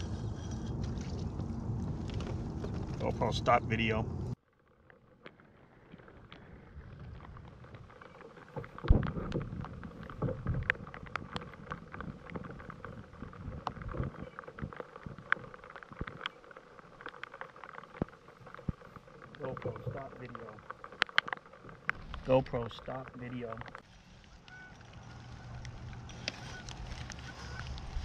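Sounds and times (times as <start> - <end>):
raindrops ticking on kayak: 4.6 - 28.0
rain hissing on water: 5.4 - 28.0.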